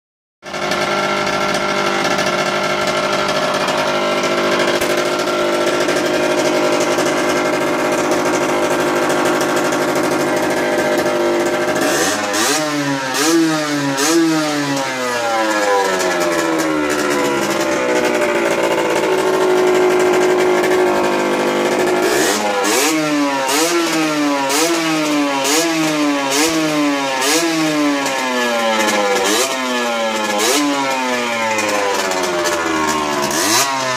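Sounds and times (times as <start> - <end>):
moped engine idling: 0.4 - 33.9
engine revving in blips: 0.6 - 33.9.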